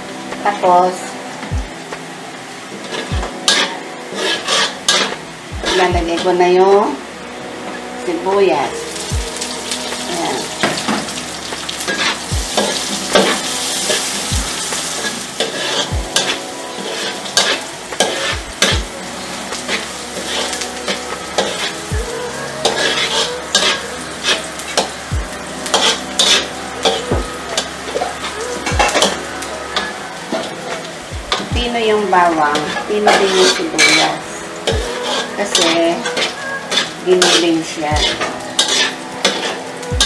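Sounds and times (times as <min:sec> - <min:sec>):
onion and garlic sizzling in oil: 0:00.0 - 0:40.0
metal spatula scraping a pan: 0:02.8 - 0:06.4, 0:08.8 - 0:25.0, 0:25.6 - 0:39.6.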